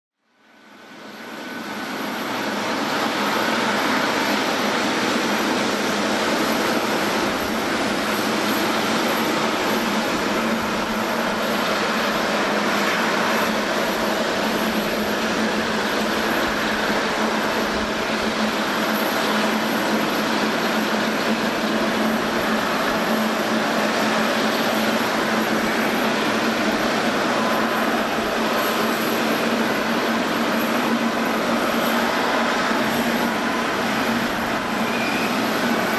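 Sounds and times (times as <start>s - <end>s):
jet engines idling: 0.6s - 35.9s.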